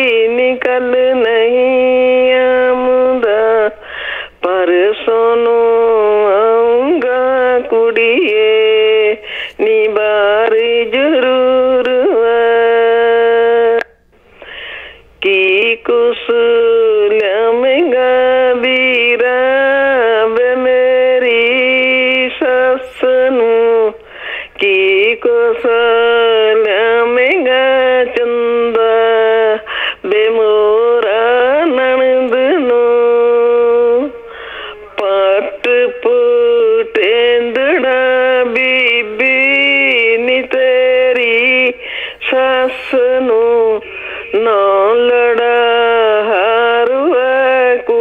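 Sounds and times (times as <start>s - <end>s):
person singing over telephone: 0.0s - 3.8s, 4.4s - 14.0s, 15.2s - 24.0s, 24.6s - 48.0s.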